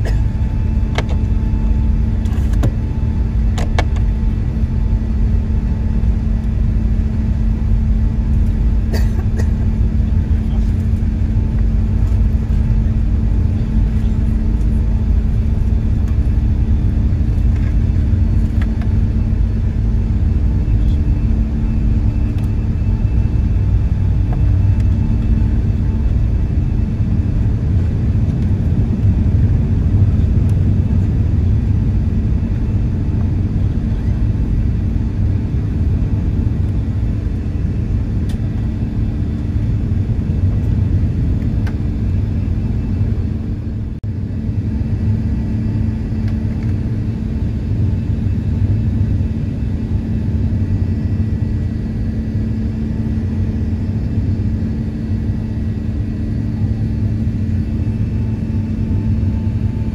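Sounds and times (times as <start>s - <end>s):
airplane cabin engine drone: 0.0s - 59.9s
low hums: 0.0s - 59.9s.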